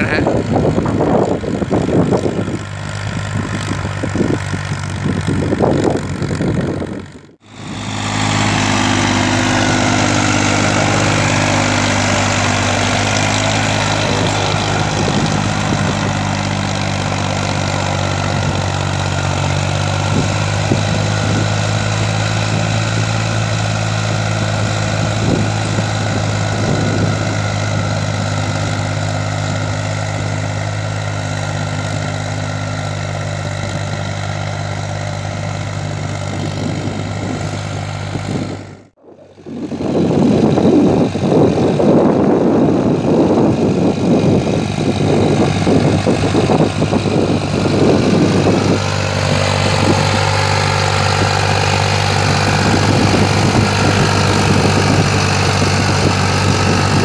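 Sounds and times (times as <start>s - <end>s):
rotavator tilling soil: 0.0s - 57.0s
tractor engine running under load: 0.0s - 57.0s.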